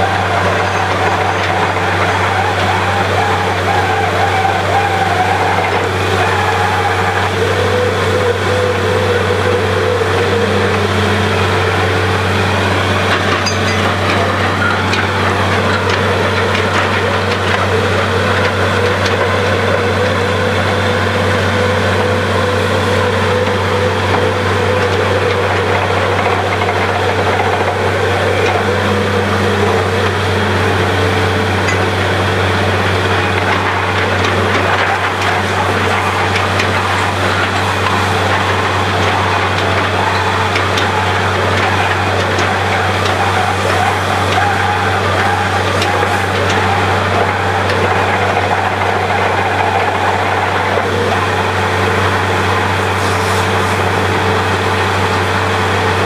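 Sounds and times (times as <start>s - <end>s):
drilling rig droning: 0.0s - 56.0s.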